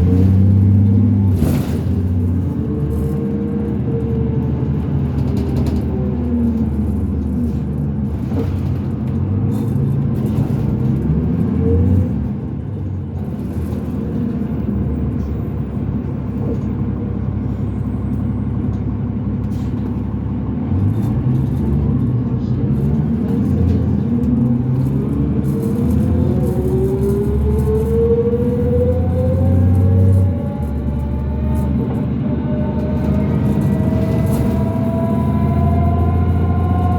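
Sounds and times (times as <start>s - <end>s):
bus diesel engine: 0.0s - 36.9s.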